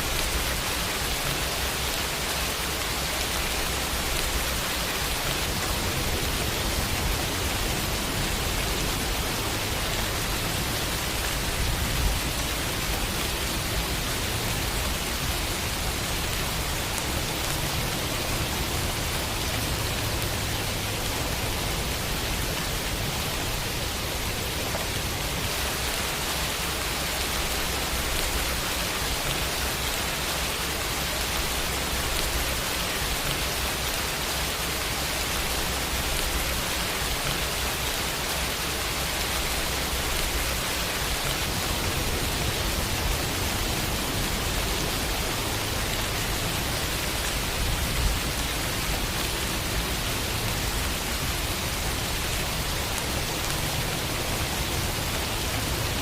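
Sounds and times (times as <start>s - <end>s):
rain pattering on a window: 0.0s - 56.0s.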